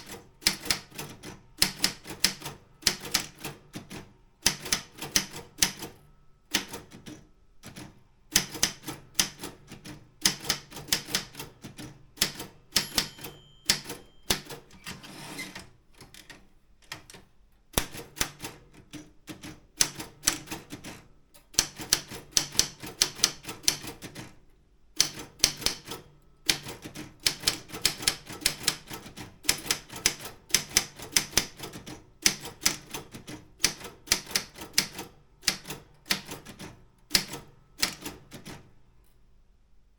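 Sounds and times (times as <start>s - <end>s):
manual typewriter typing: 0.0s - 24.4s, 25.0s - 38.7s.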